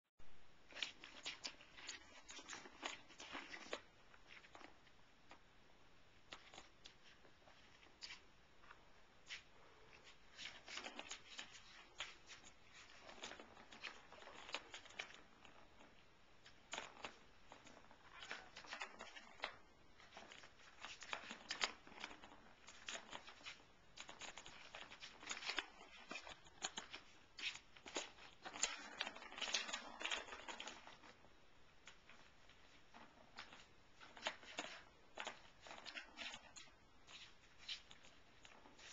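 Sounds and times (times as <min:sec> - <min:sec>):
paws and claws rustling: 0:00.7 - 0:05.4, 0:06.3 - 0:38.9.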